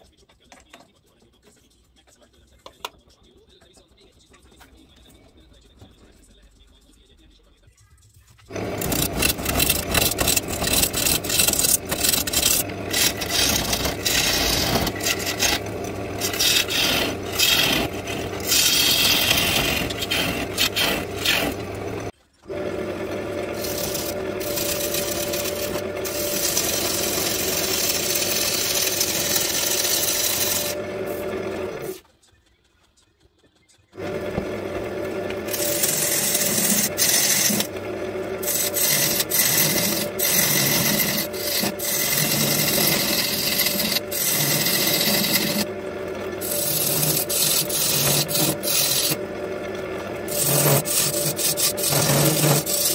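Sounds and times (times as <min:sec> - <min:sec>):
lathe tool scraping wood: 0:08.5 - 0:32.0, 0:34.0 - 0:52.9
lathe humming: 0:08.5 - 0:32.1, 0:34.0 - 0:52.9.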